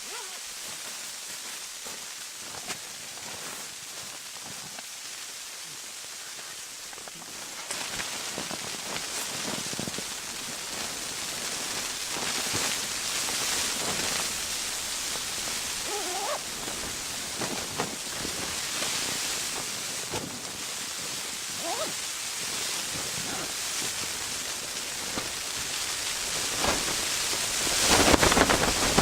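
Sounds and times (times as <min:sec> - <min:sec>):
storm wind gusting against tent: 0:00.0 - 0:29.0.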